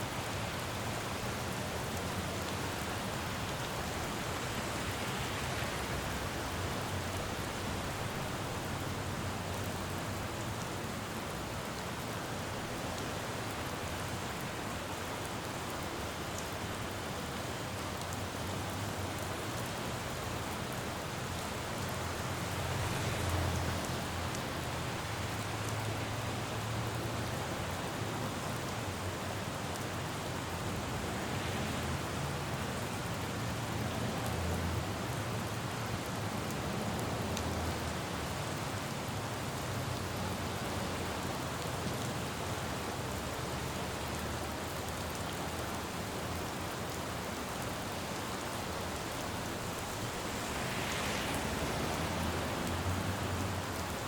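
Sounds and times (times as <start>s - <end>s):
rain falling on road: 0.0s - 54.0s
traffic rumble on wet street: 0.0s - 54.0s.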